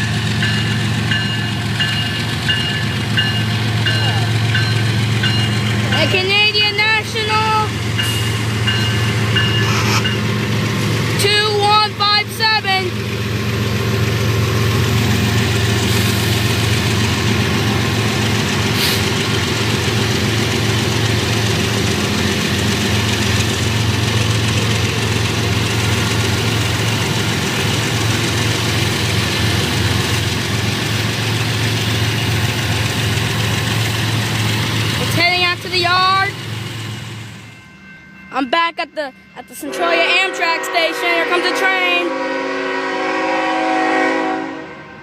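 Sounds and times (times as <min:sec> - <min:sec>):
diesel locomotive engine drone: 0:00.0 - 0:45.0.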